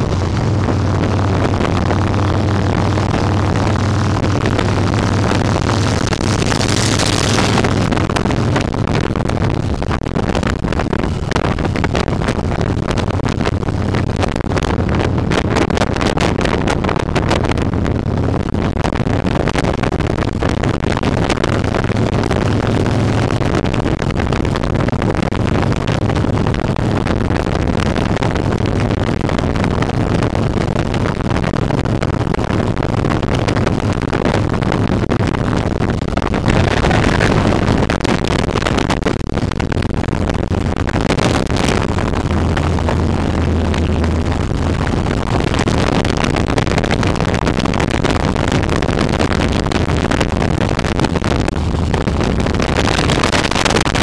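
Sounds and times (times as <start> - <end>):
motorcycle engine running: 0.0 - 54.0
wind buffeting on microphone: 0.0 - 54.0.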